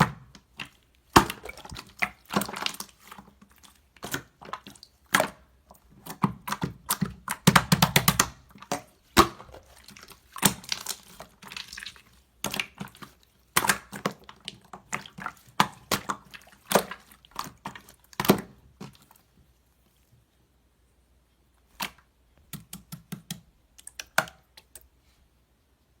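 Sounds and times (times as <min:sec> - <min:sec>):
slime squishing with sticky clicks: 0:00.0 - 0:19.4, 0:21.5 - 0:25.0.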